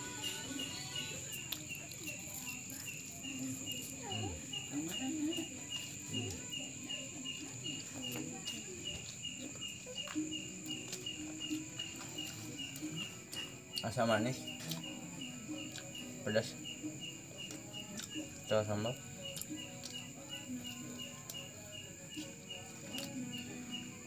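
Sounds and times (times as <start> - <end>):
cricket chirping: 0.0 - 24.0
soft chewing: 0.2 - 16.2, 17.0 - 23.9.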